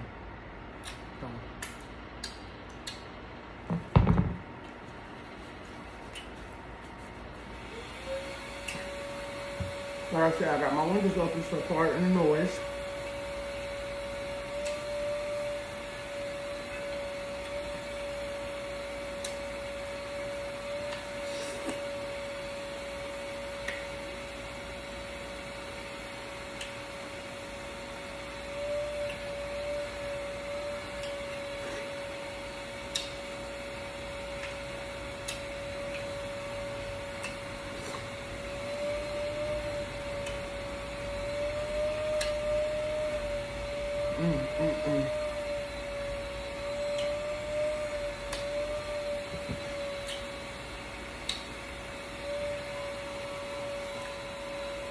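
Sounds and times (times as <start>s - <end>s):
steady machine hum: 0.0s - 54.9s.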